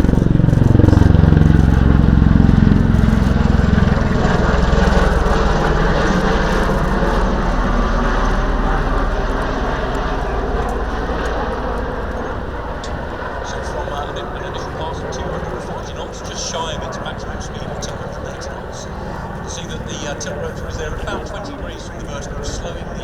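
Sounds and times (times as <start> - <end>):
aircraft rotors droning past: 0.0 - 23.0.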